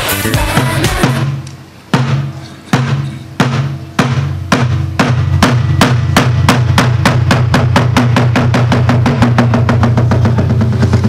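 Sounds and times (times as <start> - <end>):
barrel drum: 0.0 - 11.0
hourglass drum: 0.0 - 11.0
low ringing hum: 1.1 - 11.0.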